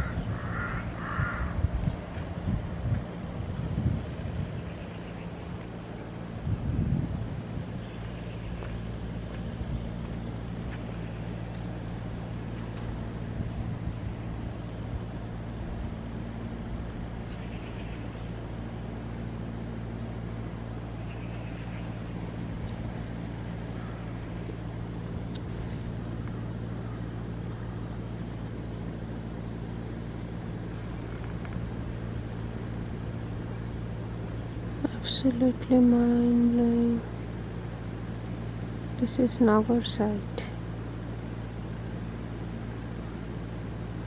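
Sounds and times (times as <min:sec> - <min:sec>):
machine humming: 0:00.0 - 0:44.0.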